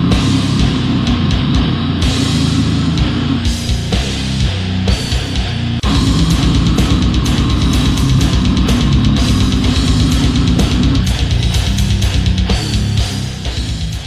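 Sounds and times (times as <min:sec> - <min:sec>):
death metal music: 0:00.0 - 0:14.0
rapid kick drum: 0:00.0 - 0:14.0.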